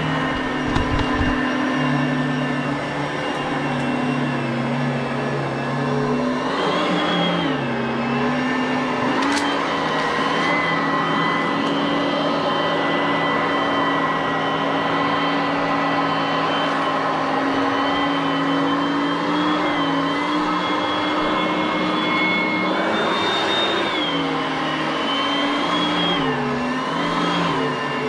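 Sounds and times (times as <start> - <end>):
vacuum cleaner motor whining: 0.0 - 28.0.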